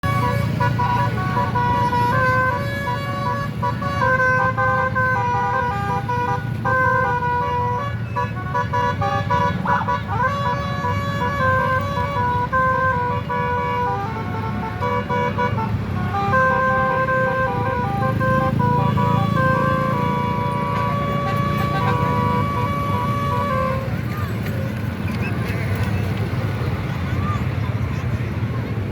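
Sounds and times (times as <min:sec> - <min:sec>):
multi-tone air horns playing a tune: 0:00.0 - 0:25.0
engines and road traffic rumble: 0:00.0 - 0:28.9.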